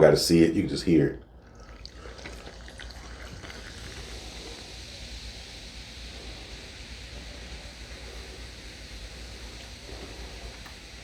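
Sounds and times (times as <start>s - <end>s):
carbonated drink fizzing: 1.3s - 11.0s.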